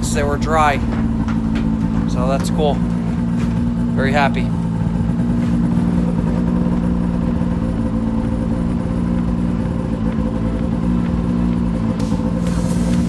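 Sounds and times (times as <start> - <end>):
snowmobile engine idling: 0.0 - 13.0.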